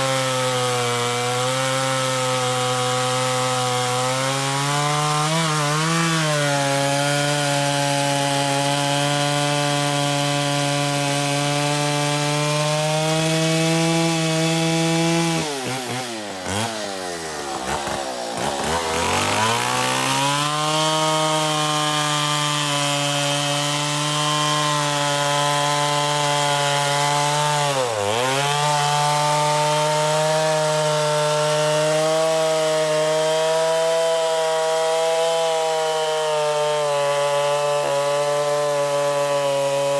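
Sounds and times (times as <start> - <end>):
chainsaw engine at high revs: 0.0 - 39.9.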